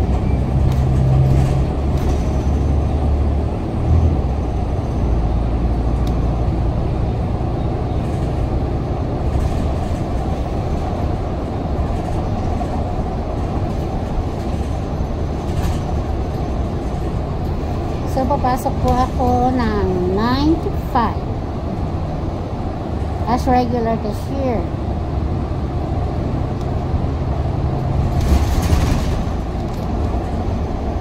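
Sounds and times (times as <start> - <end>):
bus engine drone: 0.0 - 31.0
road rumble: 0.0 - 31.0.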